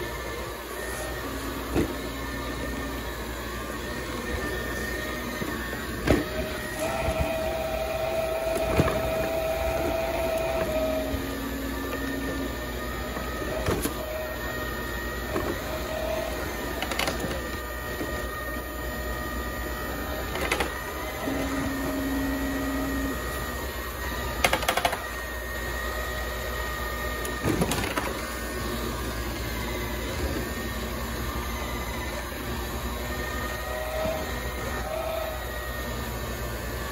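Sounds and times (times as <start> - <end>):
spinning mop scrubber whirring: 0.0 - 36.9.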